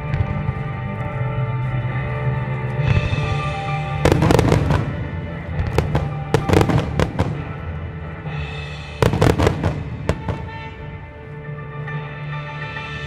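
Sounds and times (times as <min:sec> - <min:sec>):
music playing: 0:00.0 - 0:13.0.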